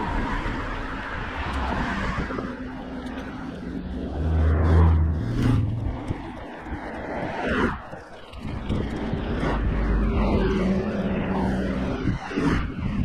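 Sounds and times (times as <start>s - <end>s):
steady rushing noise: 0.0s - 13.0s
vehicle engine hum: 0.0s - 13.0s.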